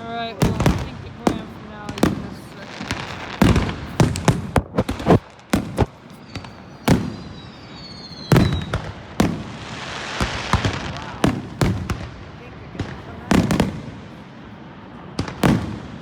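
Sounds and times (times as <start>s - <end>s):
fireworks bangs and booms: 0.0s - 16.0s
fireworks crackling hiss: 0.0s - 16.0s.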